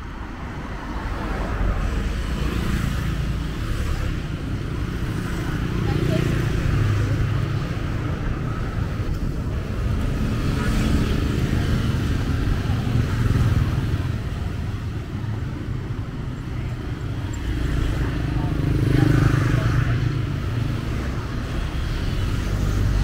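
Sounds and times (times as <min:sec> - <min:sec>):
scooters and cars passing: 0:00.0 - 0:23.0.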